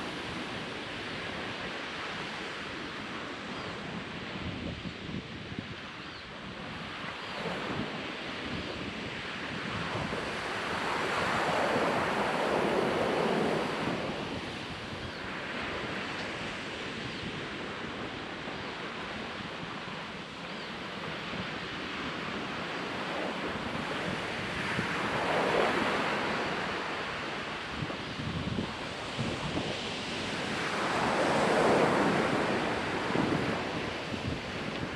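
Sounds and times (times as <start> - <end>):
ocean waves breaking on sand: 0.0 - 34.9
wind buffeting microphone: 0.0 - 34.9.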